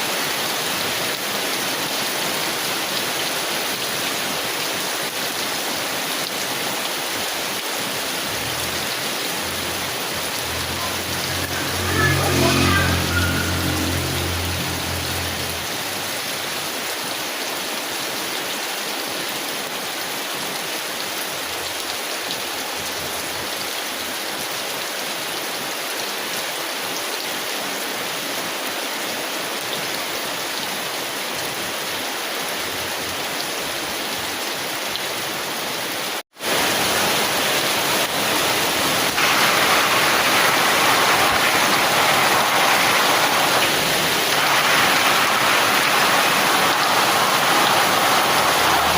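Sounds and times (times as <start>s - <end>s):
heavy rain on a tin umbrella: 0.0s - 48.9s.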